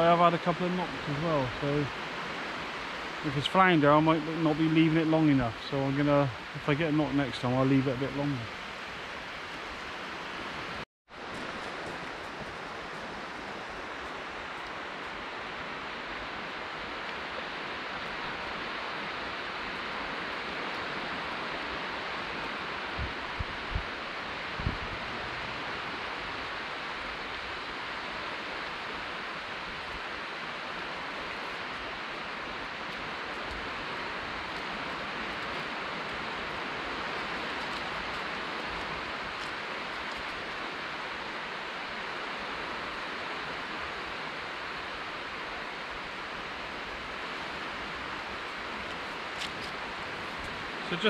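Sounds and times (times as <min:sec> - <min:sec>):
distant surf hissing: 0:00.0 - 0:51.0.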